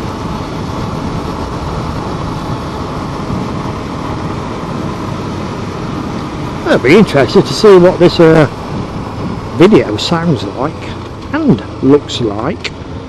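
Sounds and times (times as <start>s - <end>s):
motorcycle engine: 0.0s - 13.0s
wind noise: 0.0s - 13.0s.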